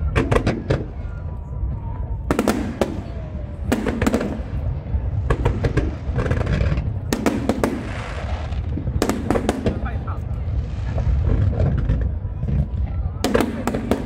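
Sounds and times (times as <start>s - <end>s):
fireworks bangs and crackles: 0.0s - 14.0s
low rumble: 0.0s - 14.0s.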